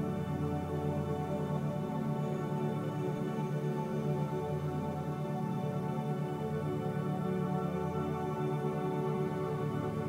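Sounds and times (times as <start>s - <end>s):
calm ambient music: 0.0s - 10.0s.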